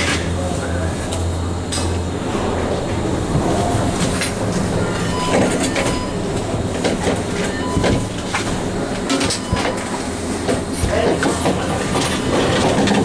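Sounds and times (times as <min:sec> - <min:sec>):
gondola station machinery rumble: 0:00.0 - 0:13.0
metallic clacks of carriages: 0:01.7 - 0:13.0.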